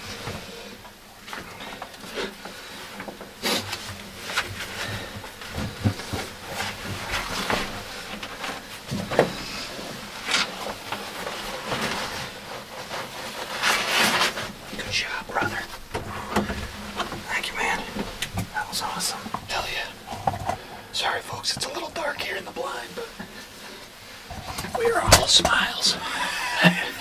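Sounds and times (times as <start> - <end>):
rustling: 0.0 - 27.0.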